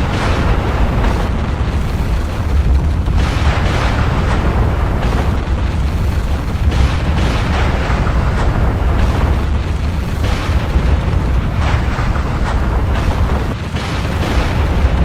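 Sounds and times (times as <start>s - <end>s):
deep volcanic rumbling: 0.0s - 15.0s
rushing eruption blasts: 0.0s - 15.0s.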